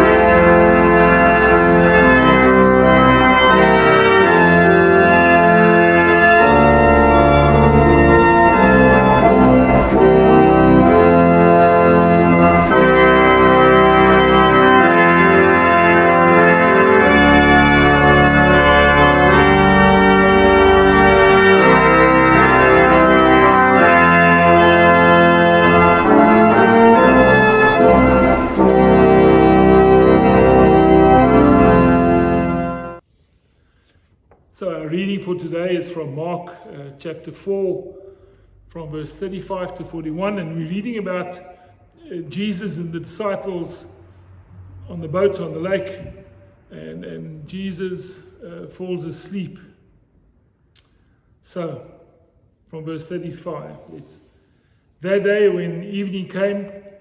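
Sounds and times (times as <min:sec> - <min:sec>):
organ playing slow chords: 0:00.0 - 0:33.0, 0:34.5 - 0:56.4.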